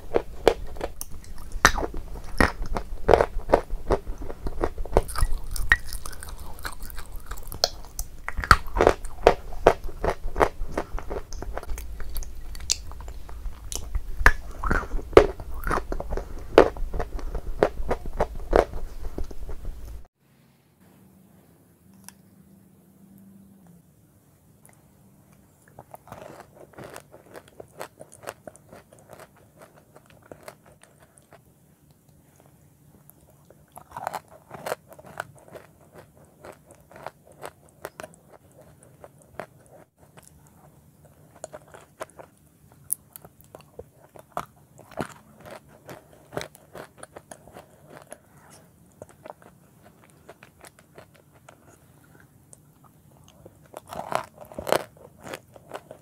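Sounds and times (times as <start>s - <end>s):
chalk being bitten and chewed: 0.0s - 20.0s, 25.6s - 31.4s, 33.0s - 56.0s.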